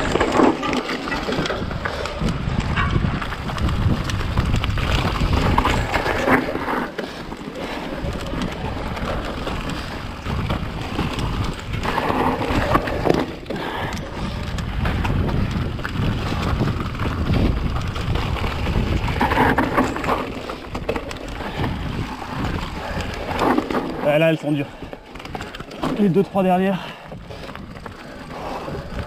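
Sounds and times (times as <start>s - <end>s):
wind noise on microphone: 0.0s - 6.8s, 7.9s - 24.0s, 27.1s - 29.0s
tyres rumbling on rough trail: 0.0s - 29.0s.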